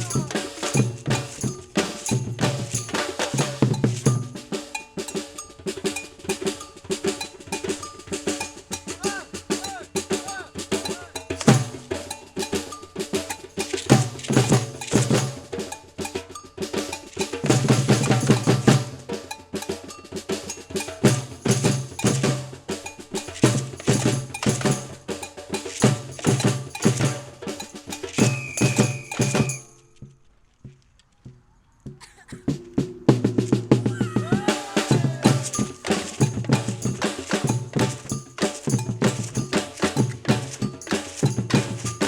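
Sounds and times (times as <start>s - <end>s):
bell-like hits: 0.0s - 29.8s, 34.9s - 42.0s
sharp percussion strikes: 0.0s - 30.0s, 32.5s - 42.0s.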